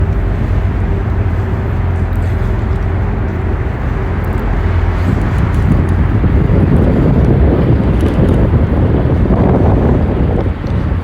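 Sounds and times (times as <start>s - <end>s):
low rumble of city noise: 0.0s - 11.0s.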